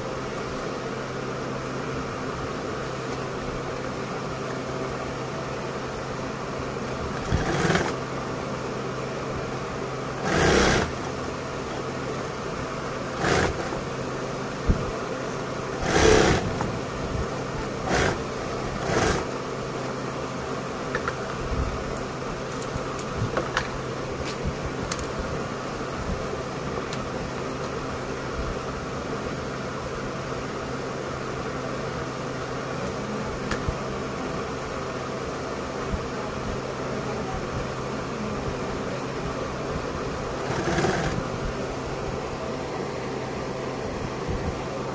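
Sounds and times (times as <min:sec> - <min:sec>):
electric motor hum: 0:00.0 - 0:30.2, 0:38.1 - 0:44.9.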